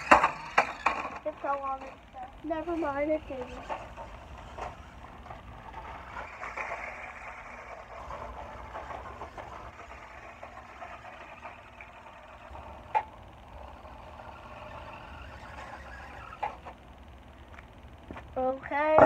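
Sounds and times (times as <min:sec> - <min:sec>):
toy car electric motor whirring: 0:00.0 - 0:16.8
tyres on gravel: 0:00.0 - 0:19.0.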